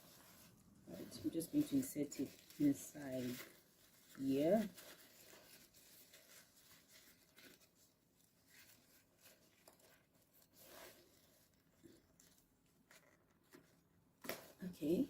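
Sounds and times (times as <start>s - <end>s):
faint rustling and handling: 0.0s - 15.0s.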